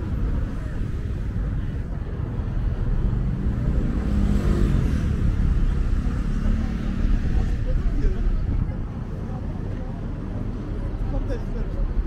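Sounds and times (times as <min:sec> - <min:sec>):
cars and buses passing: 0:00.0 - 0:12.0
steady low traffic rumble: 0:00.0 - 0:12.0.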